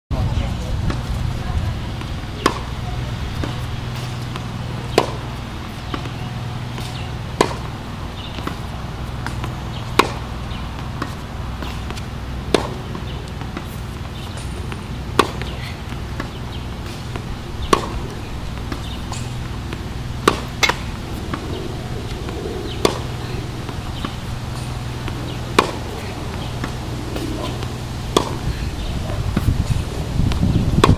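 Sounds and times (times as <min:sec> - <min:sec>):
low hum: 0:00.4 - 0:30.9
tennis racket hitting ball: 0:02.0 - 0:30.9.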